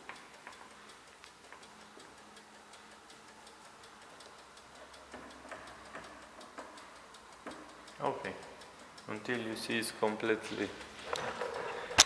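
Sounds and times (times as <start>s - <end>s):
fast ticking: 0.0s - 12.0s.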